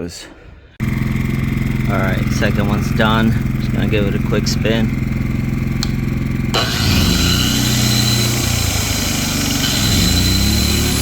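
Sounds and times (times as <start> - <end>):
angle grinder high whine: 0.8 - 11.0.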